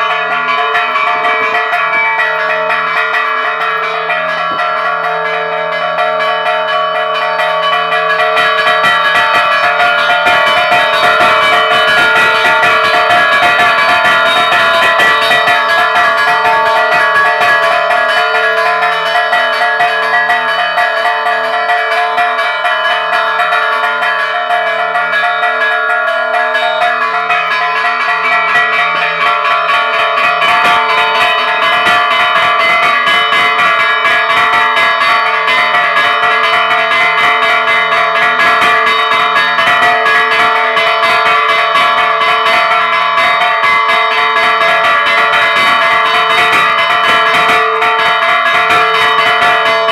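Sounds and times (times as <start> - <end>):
church bells ringing peal: 0.0 - 49.9.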